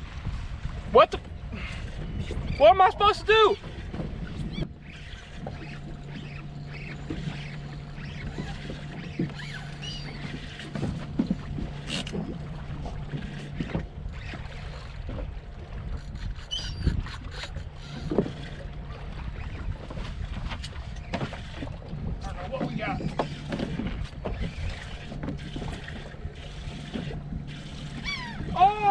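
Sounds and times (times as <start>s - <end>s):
boat engine low hum: 0.0s - 28.9s
wind: 0.0s - 28.9s
water wash: 2.5s - 28.9s.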